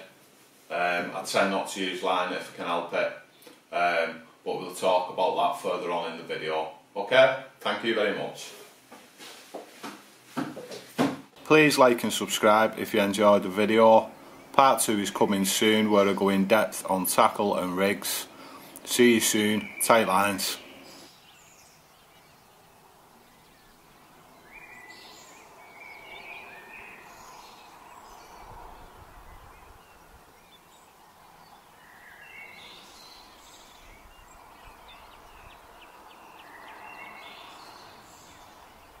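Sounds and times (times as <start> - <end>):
faint background noise: 0.0 - 39.0
small birds chirping: 0.8 - 6.7, 11.5 - 39.0.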